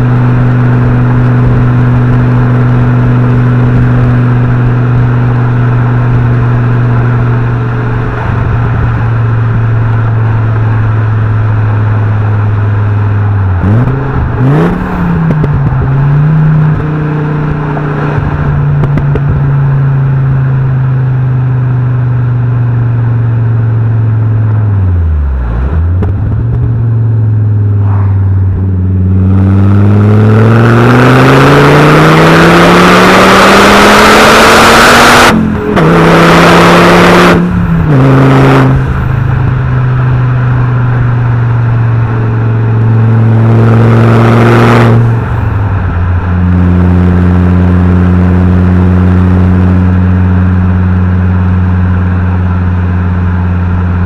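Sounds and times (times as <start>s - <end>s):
car engine and exhaust while driving: 0.0s - 54.0s.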